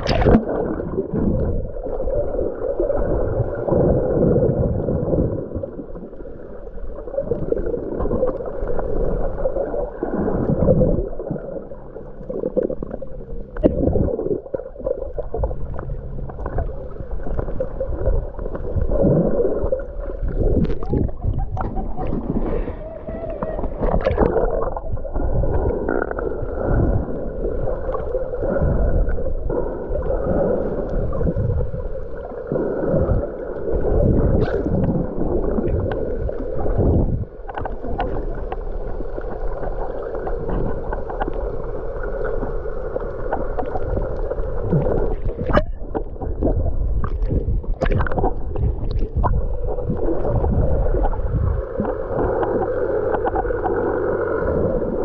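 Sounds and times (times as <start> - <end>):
muffled underwater sloshing: 0.0 - 55.0.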